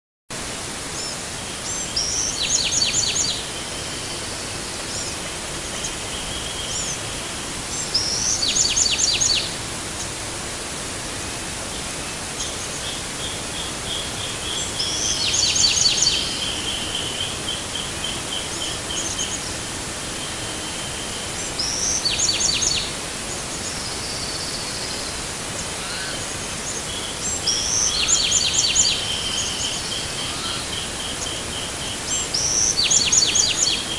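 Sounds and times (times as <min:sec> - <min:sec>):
steady hiss: 0:00.4 - 0:33.9.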